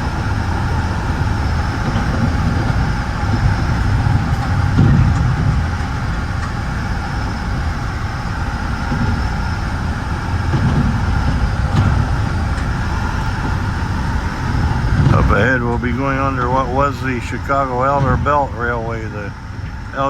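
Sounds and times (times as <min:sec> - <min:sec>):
constant hum: 0:00.0 - 0:20.0
train wheels rumbling on rail: 0:00.0 - 0:20.0.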